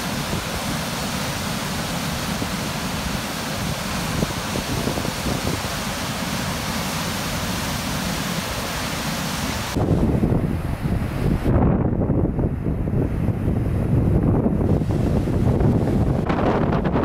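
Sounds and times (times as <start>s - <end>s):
waterfall rushing water: 0.0s - 11.5s, 14.6s - 17.0s.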